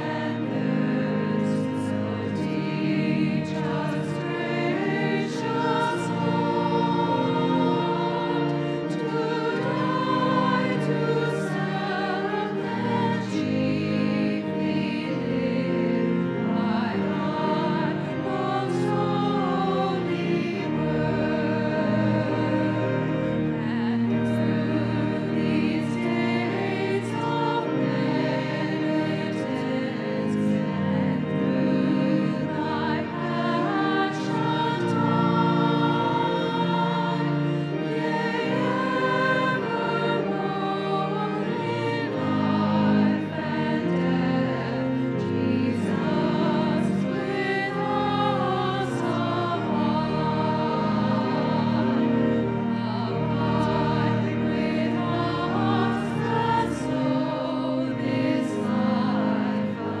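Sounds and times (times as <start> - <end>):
congregation singing a hymn: 0.0 - 60.0
pipe organ: 0.0 - 60.0.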